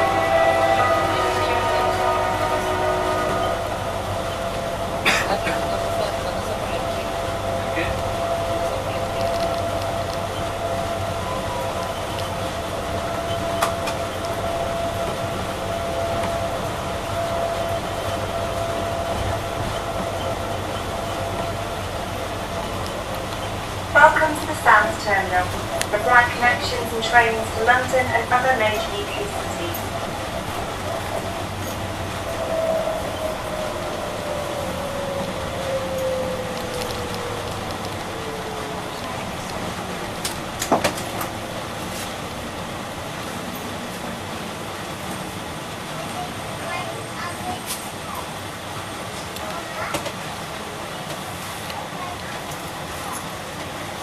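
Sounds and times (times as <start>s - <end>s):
shuttle train running with whine: 0.0s - 54.0s.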